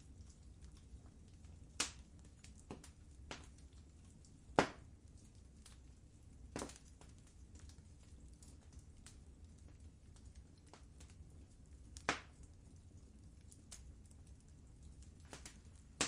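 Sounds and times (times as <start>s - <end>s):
fire pops: 0.0s - 16.0s
wood fire crackling: 0.0s - 16.0s.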